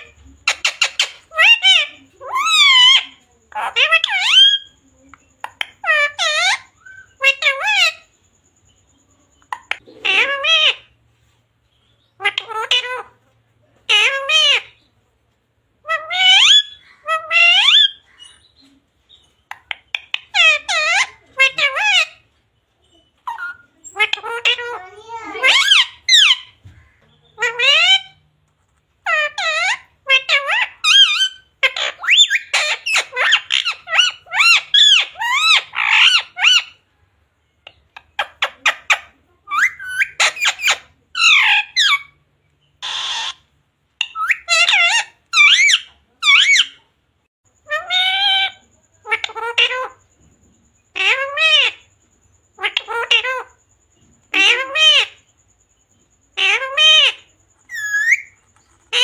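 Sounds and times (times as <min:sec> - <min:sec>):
parrot squawking and chirping: 0:00.0 - 0:08.4, 0:09.4 - 0:15.0, 0:15.7 - 0:37.0, 0:37.6 - 0:59.0
parakeet calling: 0:00.0 - 0:11.1, 0:11.7 - 0:15.0, 0:15.7 - 0:59.0.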